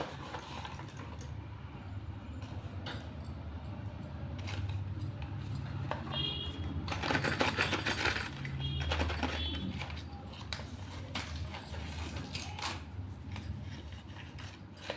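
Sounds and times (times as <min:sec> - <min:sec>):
slate pencils clicking and clinking: 0:02.5 - 0:14.9.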